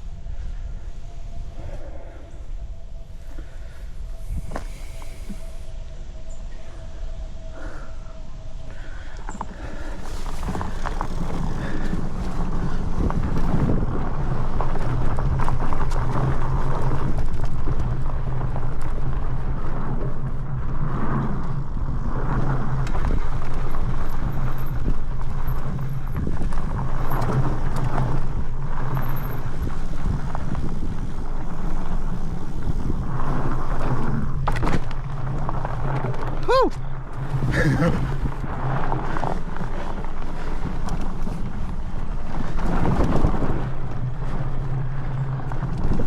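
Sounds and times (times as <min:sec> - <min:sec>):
wind buffeting microphone: 0:00.0 - 0:46.0
tyre and drive hum: 0:07.6 - 0:46.0.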